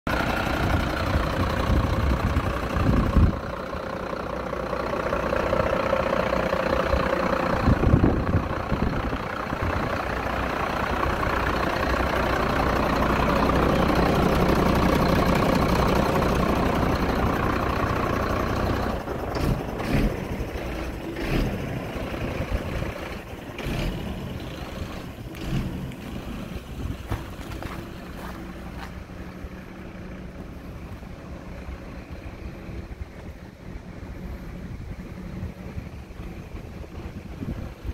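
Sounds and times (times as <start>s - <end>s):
diesel engine idling: 0.1s - 37.9s.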